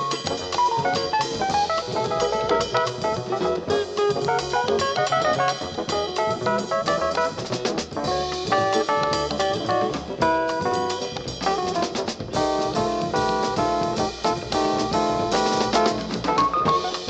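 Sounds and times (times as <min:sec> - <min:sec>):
drum kit: 0:00.0 - 0:17.0
jazz guitar: 0:00.0 - 0:17.0.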